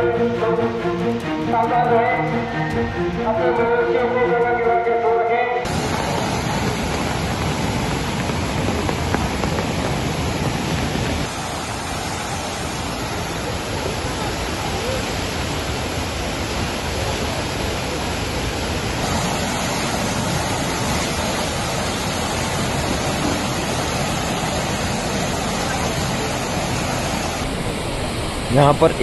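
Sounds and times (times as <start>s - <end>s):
flood water rushing: 5.6s - 29.0s.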